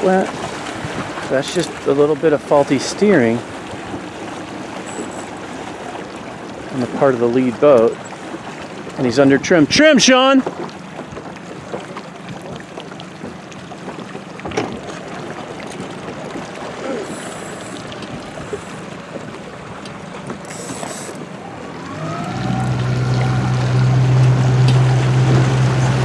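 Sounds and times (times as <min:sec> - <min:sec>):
wind and water rushing: 0:00.0 - 0:26.0.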